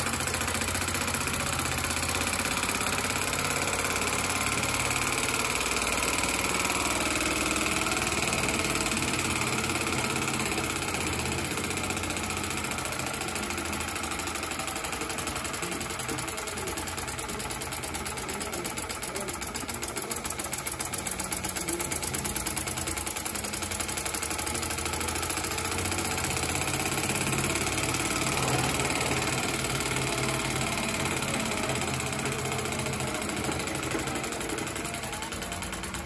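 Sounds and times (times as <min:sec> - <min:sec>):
miniature steam engine clattering: 0:00.0 - 0:36.0.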